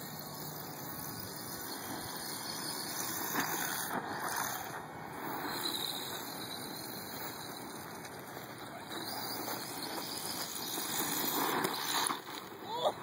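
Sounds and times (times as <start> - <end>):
toy truck motor and tyres: 0.0 - 13.0.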